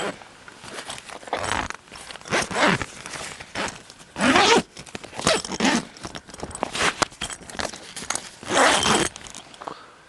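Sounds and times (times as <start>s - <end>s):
tent zipper pulled open: 0.0s - 9.5s.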